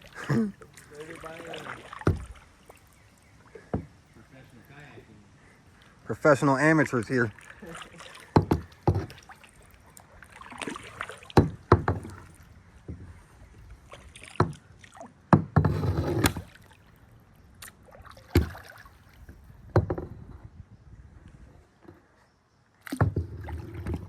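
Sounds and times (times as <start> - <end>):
paddle strokes splashing: 0.0 - 19.7.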